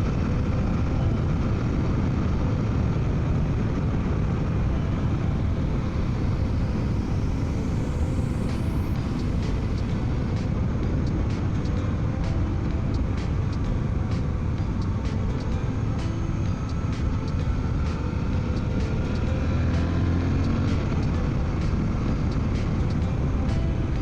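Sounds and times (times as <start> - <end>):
faint high whine: 0.0 - 24.0
motorcycle engine running: 0.0 - 24.0
wind rush: 0.0 - 24.0.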